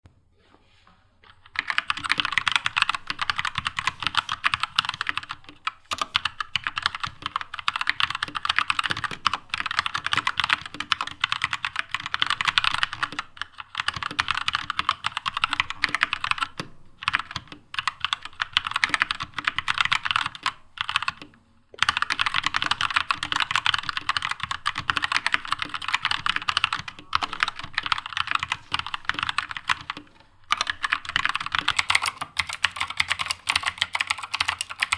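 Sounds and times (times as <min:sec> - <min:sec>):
mechanical keyboard typing: 0:01.2 - 0:34.9.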